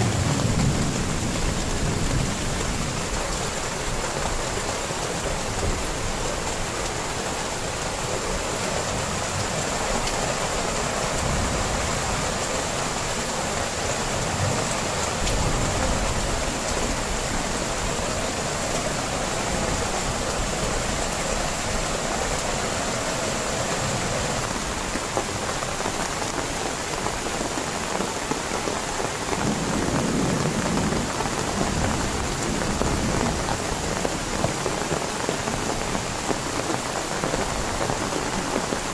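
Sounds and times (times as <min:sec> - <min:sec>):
heavy rain drumming on surface: 0:00.0 - 0:38.9.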